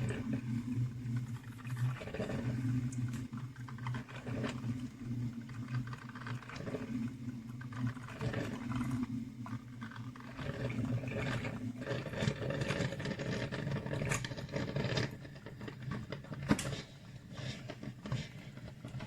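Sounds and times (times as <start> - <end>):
coffee maker gurgling and sputtering: 0.0 - 19.0
coffee maker humming: 0.0 - 19.0.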